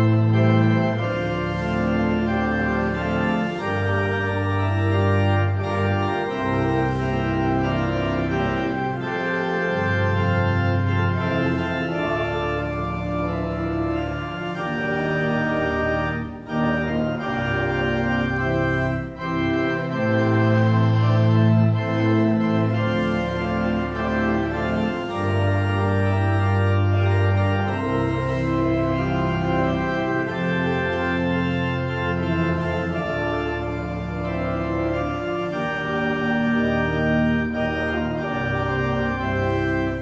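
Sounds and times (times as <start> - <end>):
church organ playing chords: 0.0 - 40.0.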